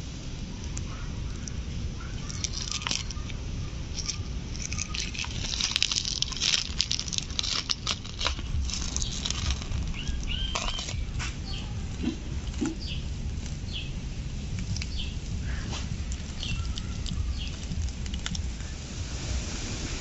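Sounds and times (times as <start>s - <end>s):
wet fruit pulp tearing: 0.6s - 18.8s.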